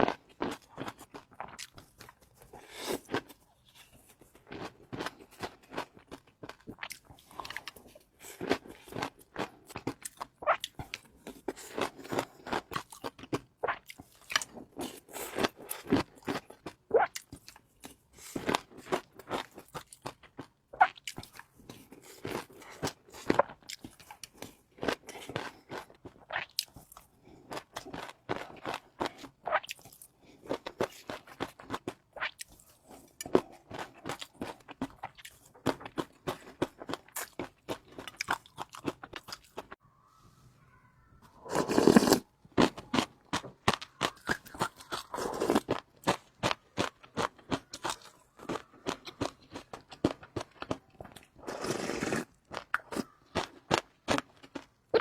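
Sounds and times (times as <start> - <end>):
crunching and chewing: 0.0 - 39.8, 41.4 - 55.0.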